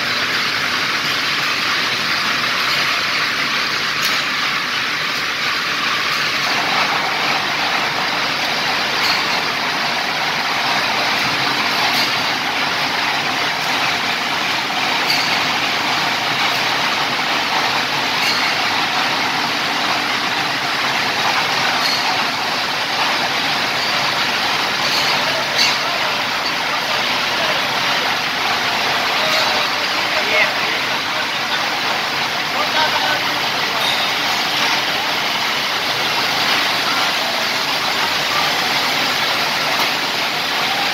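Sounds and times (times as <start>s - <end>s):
machine rolls hissing: 0.0s - 40.9s.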